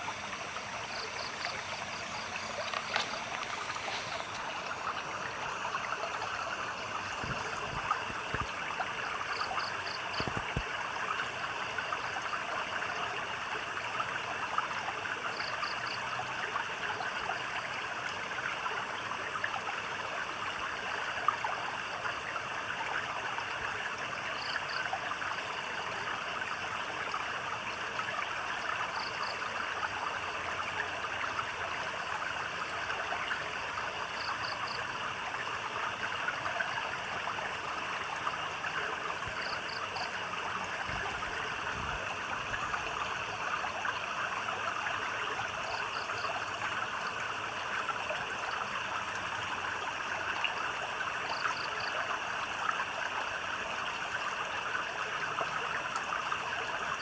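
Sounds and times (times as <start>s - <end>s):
stream water flowing and splashing: 0.0s - 57.0s.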